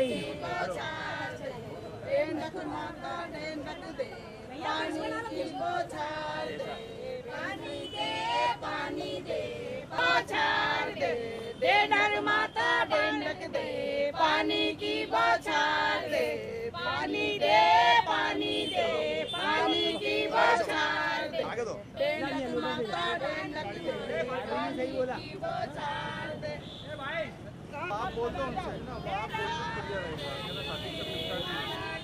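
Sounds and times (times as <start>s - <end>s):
women singing unaccompanied: 0.0s - 26.7s.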